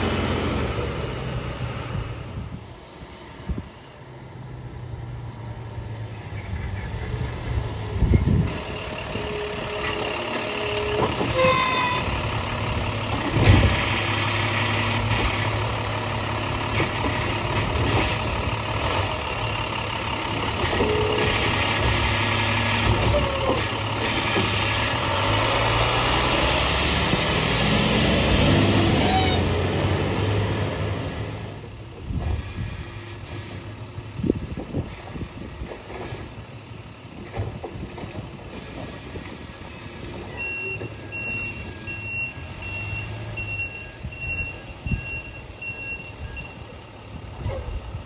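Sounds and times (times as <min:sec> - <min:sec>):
garbage truck diesel engine: 0:00.0 - 0:48.0.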